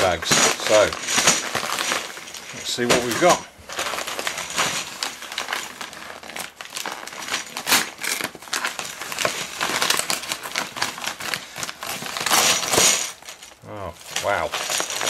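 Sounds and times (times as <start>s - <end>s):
paper envelope tearing and crumpling: 0.0s - 15.0s.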